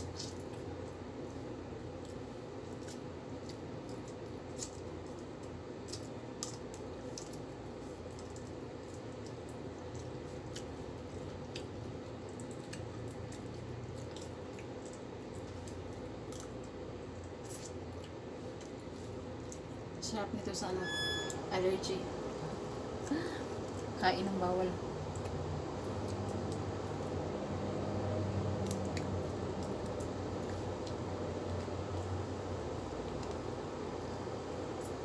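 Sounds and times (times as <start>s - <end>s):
chewing: 0.0s - 20.0s, 25.0s - 33.6s
small clicks and smacks of eating: 0.0s - 20.2s, 23.0s - 35.0s
low background hum: 0.0s - 35.0s.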